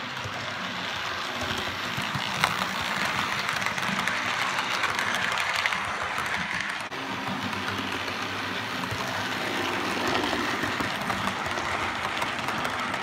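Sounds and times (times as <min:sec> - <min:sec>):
model train wheels rumbling on rail: 0:00.0 - 0:13.0.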